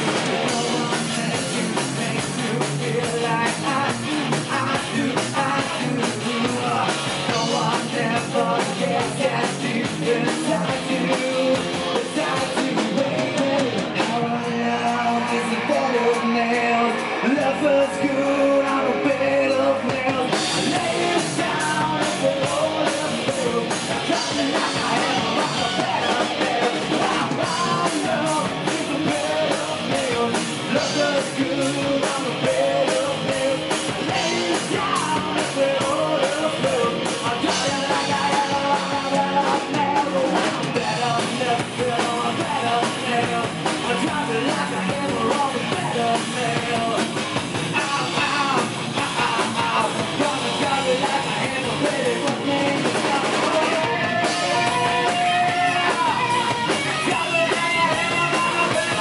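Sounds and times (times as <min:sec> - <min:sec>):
drums beating: 0:00.0 - 0:59.0
electric guitars: 0:00.0 - 0:59.0
person singing lead vocals: 0:00.0 - 0:59.0.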